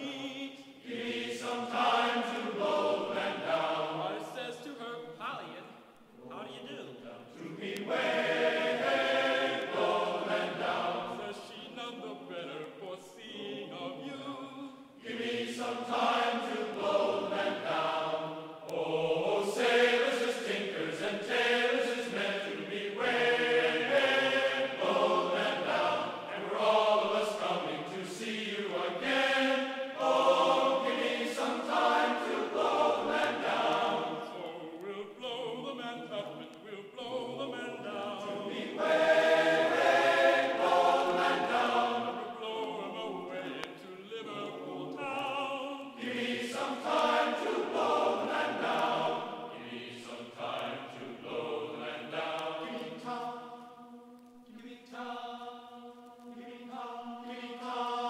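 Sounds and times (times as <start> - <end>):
choir singing chant-like phrases: 0.0 - 5.3, 6.2 - 58.0.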